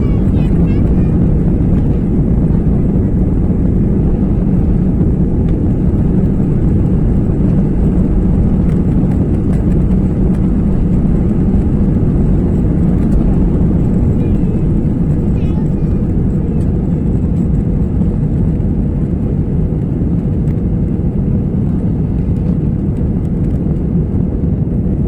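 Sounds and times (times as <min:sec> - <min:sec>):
airliner engines rumbling in cabin: 0:00.0 - 0:25.0.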